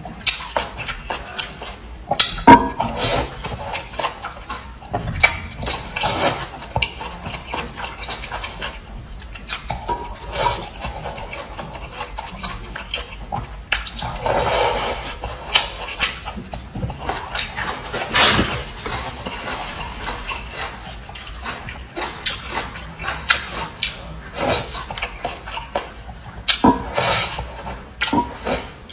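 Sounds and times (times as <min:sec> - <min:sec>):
close-miked eating sounds: 0:00.0 - 0:28.9.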